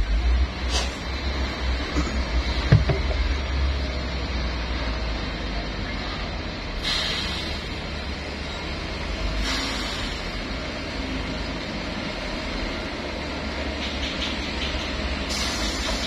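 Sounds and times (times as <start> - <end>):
distant diesel engines rumbling: 0.0 - 16.0.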